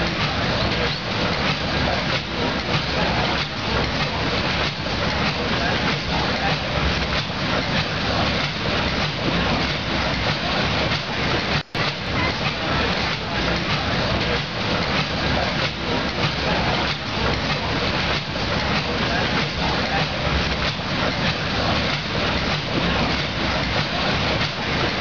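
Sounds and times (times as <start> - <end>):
steam engine hiss and rumble: 0.0 - 25.0.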